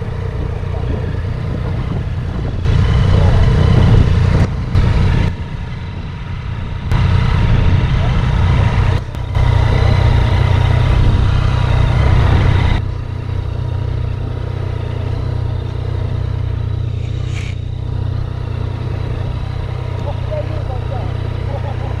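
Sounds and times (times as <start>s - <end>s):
motorcycle engines idling: 0.0s - 22.0s.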